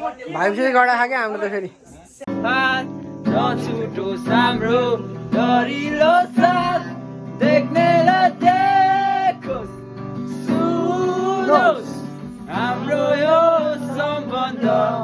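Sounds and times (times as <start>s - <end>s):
man singing: 2.3s - 15.0s
strummed acoustic guitar: 2.3s - 15.0s.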